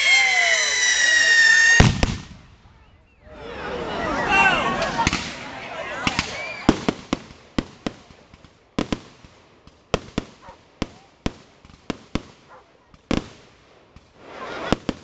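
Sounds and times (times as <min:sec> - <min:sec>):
fireworks bursting: 0:00.0 - 0:02.8, 0:04.3 - 0:15.0.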